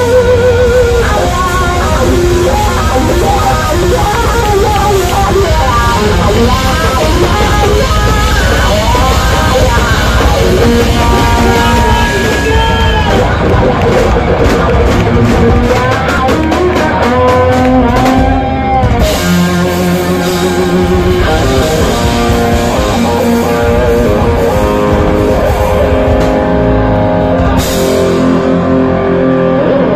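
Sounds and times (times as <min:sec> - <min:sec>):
drum strikes: 0:00.0 - 0:28.9
electric guitars sustained notes: 0:00.0 - 0:29.9.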